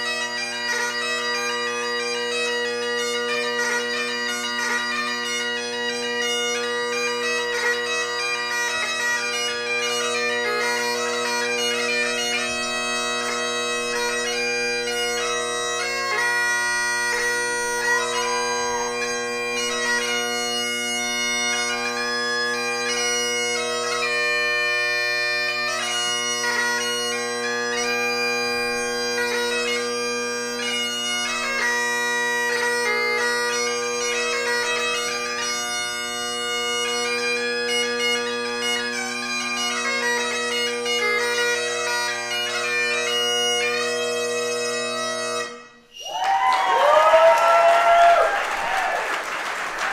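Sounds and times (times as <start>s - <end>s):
bagpipe drones: 0.0s - 46.3s
bagpipe chanter melody: 0.0s - 46.6s.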